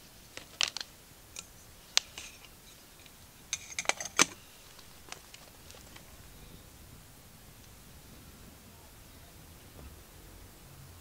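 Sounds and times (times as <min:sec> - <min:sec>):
twig fire crackling: 0:00.0 - 0:10.6.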